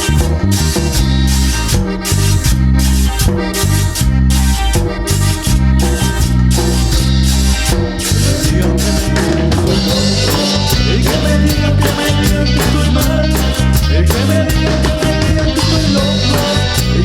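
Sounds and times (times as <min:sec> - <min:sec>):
accordion band music: 0:00.0 - 0:17.0.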